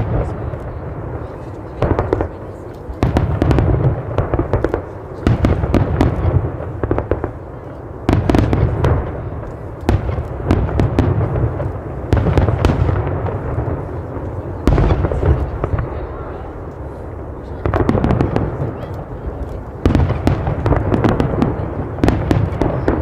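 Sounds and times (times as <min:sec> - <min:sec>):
fireworks booming: 0:00.0 - 0:23.0
fireworks crackling: 0:00.0 - 0:23.0.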